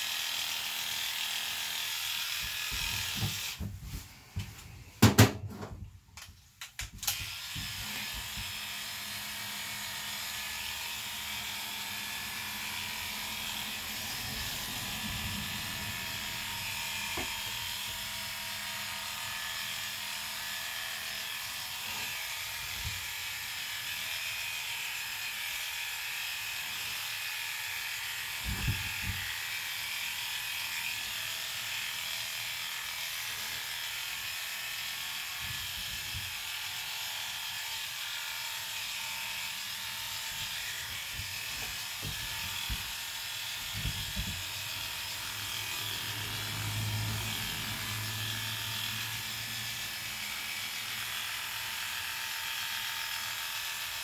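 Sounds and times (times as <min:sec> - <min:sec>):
electric clippers running: 0:00.0 - 0:05.4, 0:06.2 - 0:54.0.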